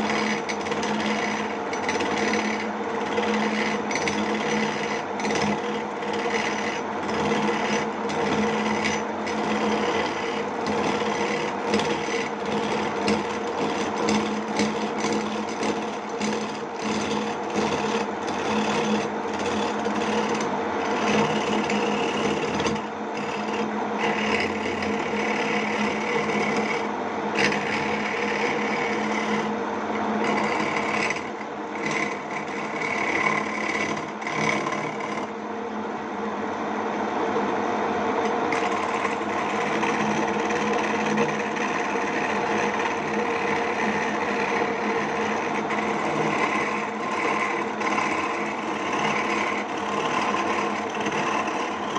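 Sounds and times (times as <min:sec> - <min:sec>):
cutting tool scraping wood: 0:00.0 - 0:35.4, 0:38.2 - 0:51.9
lathe motor hum: 0:00.0 - 0:51.9.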